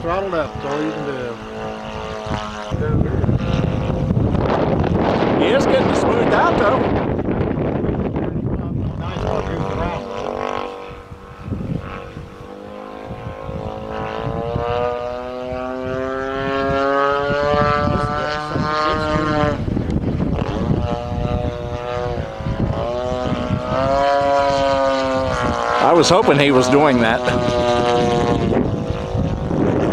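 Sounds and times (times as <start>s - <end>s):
model airplane motor whine: 0.0s - 29.9s
wind rumble on microphone: 0.0s - 29.9s.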